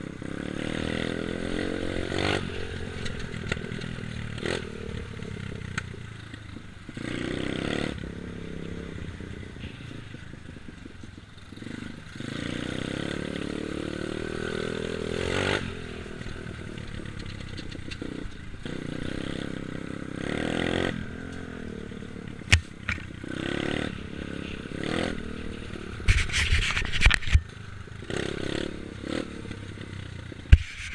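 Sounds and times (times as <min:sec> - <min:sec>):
dirt bike engine revving: 0:00.0 - 0:27.4, 0:28.0 - 0:30.9.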